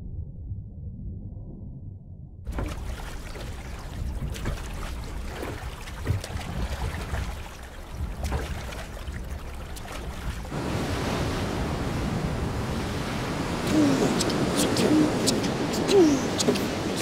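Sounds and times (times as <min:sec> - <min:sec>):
surf breaking on rocks: 0:02.5 - 0:17.0
water slapping around a boat: 0:02.5 - 0:17.0.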